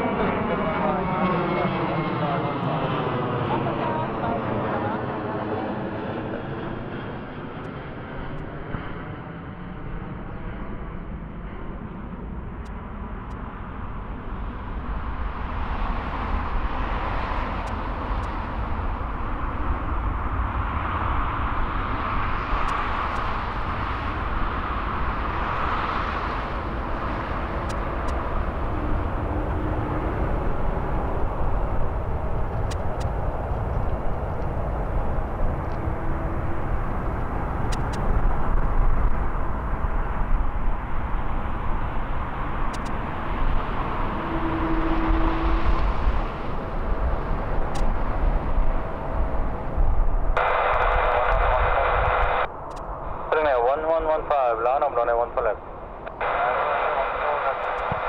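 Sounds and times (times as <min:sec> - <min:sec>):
jet airliner roar: 0:00.0 - 0:58.0.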